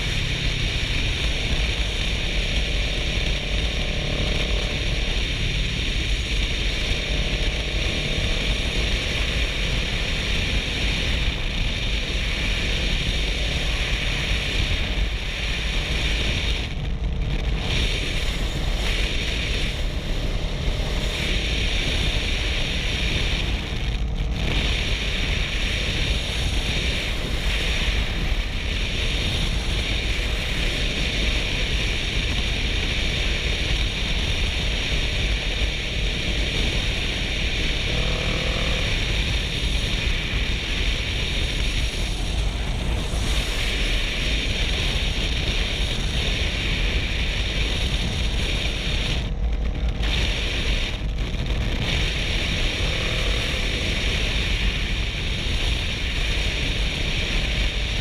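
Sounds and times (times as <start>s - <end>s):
low motorcycle rumble: 0.0s - 58.0s.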